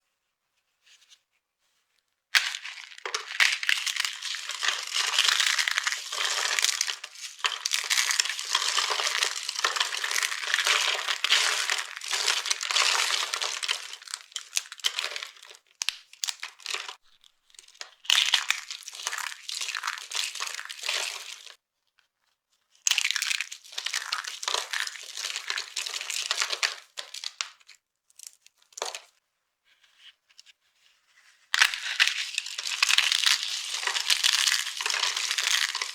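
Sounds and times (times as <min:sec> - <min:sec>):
dry soap crunching: 0:02.4 - 0:21.6, 0:22.9 - 0:29.1, 0:31.6 - 0:35.9.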